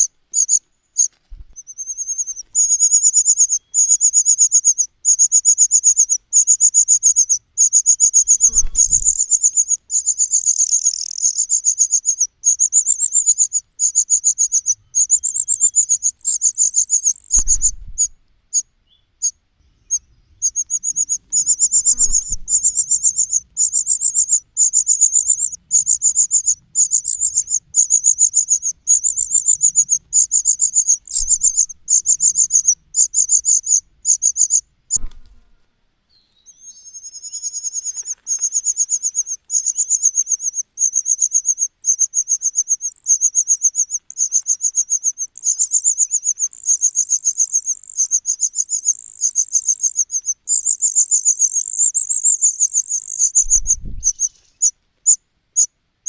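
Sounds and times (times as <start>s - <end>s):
nestling birds begging chirps: 0.0s - 55.7s.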